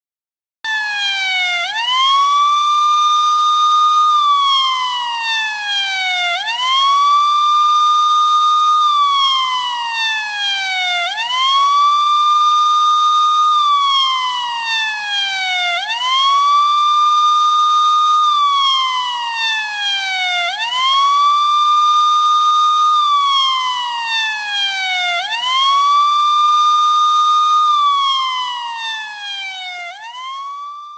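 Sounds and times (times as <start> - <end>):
wailing siren alarm: 0.7 - 30.9.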